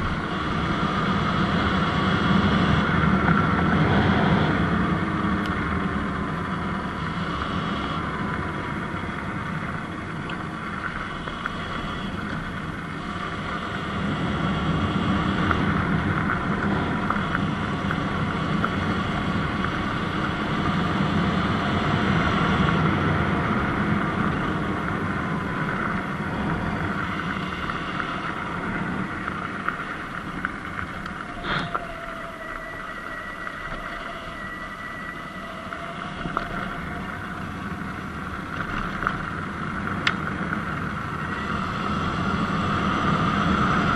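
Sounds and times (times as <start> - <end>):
faint electric motor whine: 0.0 - 43.9
wind rushing over microphone: 0.0 - 43.9.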